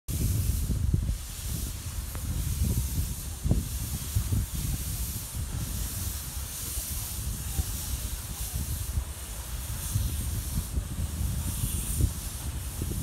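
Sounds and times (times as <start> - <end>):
steam hissing from locomotive: 0.1 - 13.0
train low rumble: 0.1 - 13.0.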